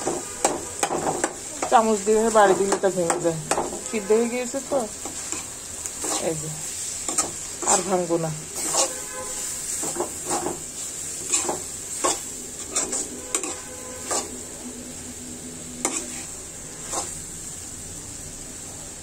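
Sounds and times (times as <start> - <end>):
spoon scraping and knocking pan: 0.0 - 14.4, 15.8 - 17.2
frying sizzle: 0.0 - 19.0.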